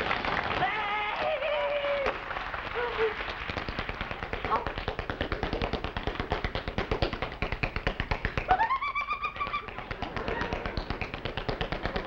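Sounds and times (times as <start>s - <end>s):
tap shoes tapping on stage floor: 0.0s - 12.0s.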